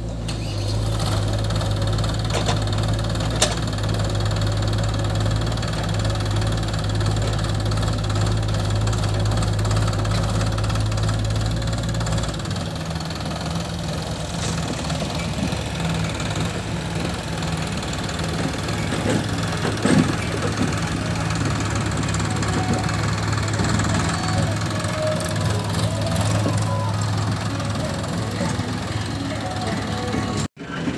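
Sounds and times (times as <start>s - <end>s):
tractor diesel engine knocking: 0.0s - 30.9s.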